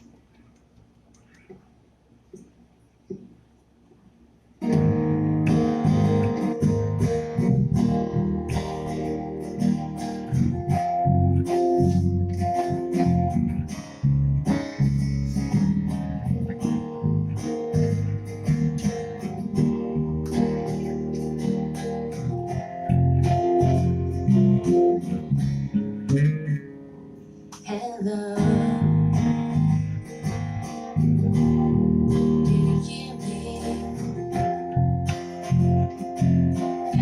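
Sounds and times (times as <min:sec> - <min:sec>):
guitar strumming chords: 0:04.6 - 0:37.0.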